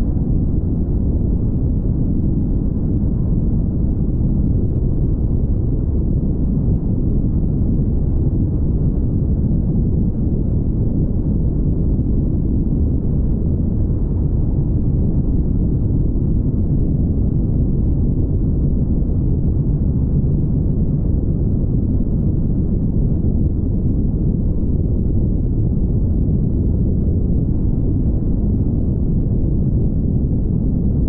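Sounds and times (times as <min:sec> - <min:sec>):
tyre and wind noise rumble: 0:00.0 - 0:31.0.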